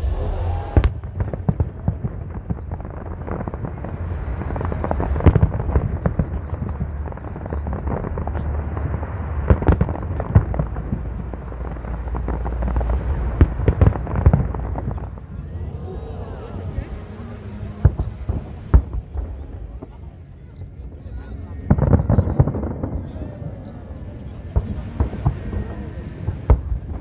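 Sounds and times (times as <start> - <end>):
fireworks booms: 0.0 - 20.1, 21.7 - 27.0
fireworks crackling: 0.0 - 27.0
low rumble: 0.0 - 27.0.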